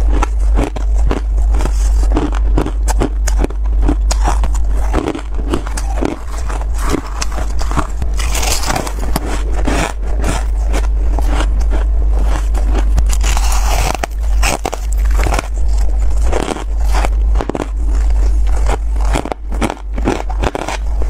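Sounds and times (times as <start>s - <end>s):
fingers crumbling frost: 0.0s - 21.0s
frost being chewed: 0.0s - 21.0s.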